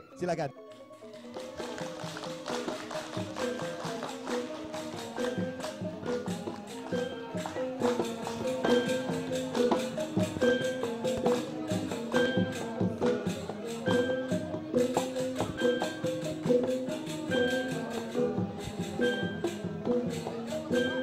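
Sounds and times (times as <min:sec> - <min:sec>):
hand drum: 0:01.1 - 0:21.0
metallophones struck with mallets: 0:02.0 - 0:21.0.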